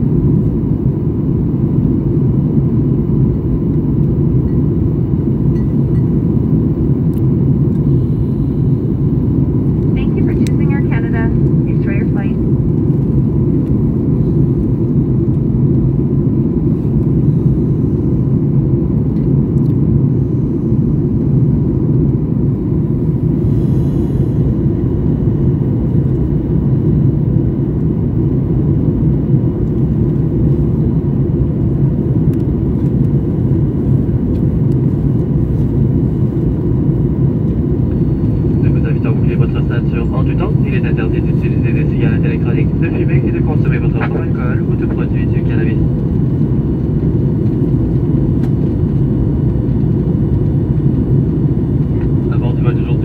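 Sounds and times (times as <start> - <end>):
jet engines roaring in cabin: 0.0 - 53.0.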